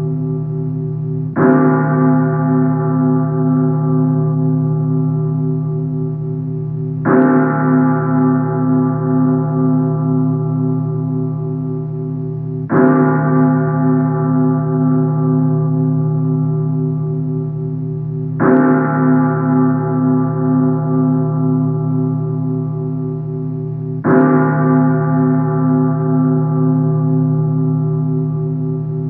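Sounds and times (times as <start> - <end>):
church bell tolling: 0.0 - 29.0.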